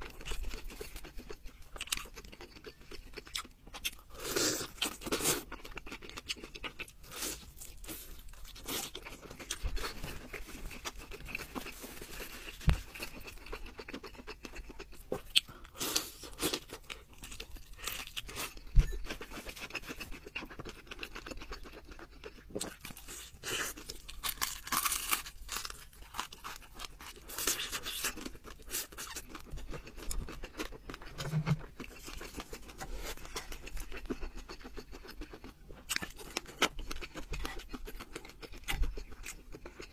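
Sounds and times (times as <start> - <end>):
person chewing crispy food: 0.0 - 39.9.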